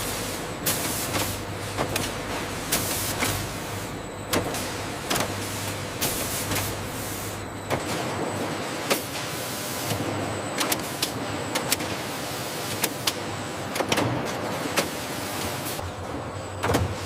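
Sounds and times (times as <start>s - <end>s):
factory machinery whirring hiss: 0.0s - 17.0s.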